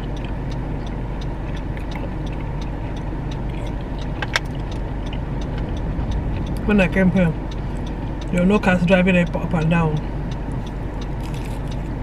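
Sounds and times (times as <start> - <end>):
car idling rumble: 0.0 - 12.0.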